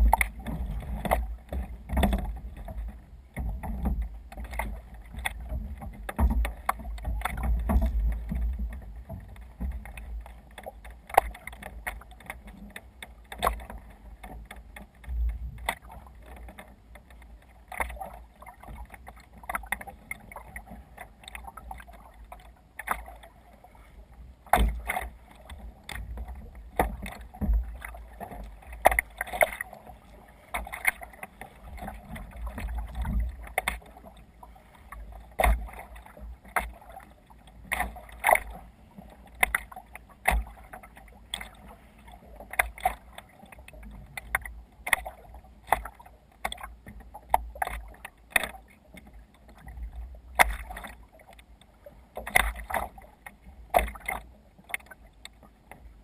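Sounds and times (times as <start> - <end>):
paddle splashing in water: 0.0 - 56.0
water running along hull: 0.0 - 56.0.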